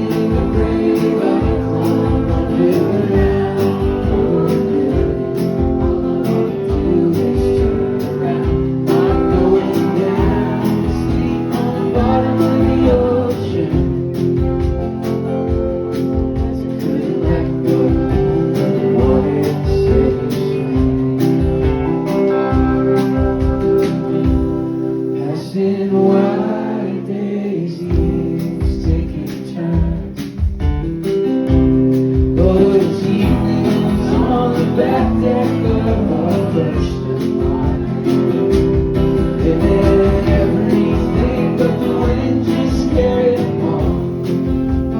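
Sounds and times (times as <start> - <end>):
steady drum beat: 0.0 - 25.1, 27.9 - 44.9
person singing: 0.0 - 30.9, 32.1 - 44.9
guitar: 0.0 - 44.9.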